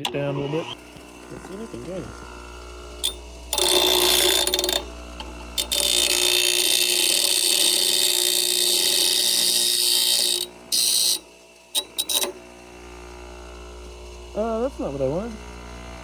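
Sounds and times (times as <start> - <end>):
power grinder grinding steel: 0.0 - 16.0.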